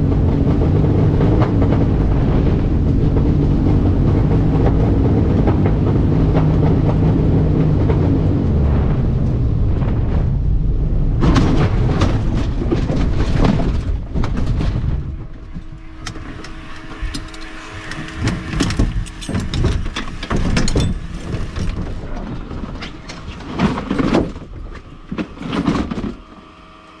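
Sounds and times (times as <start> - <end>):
wind rush and airframe rumble: 0.0 - 26.2
thumps and clatter: 0.0 - 26.4
wheels rattling over bumpy ground: 0.0 - 27.0.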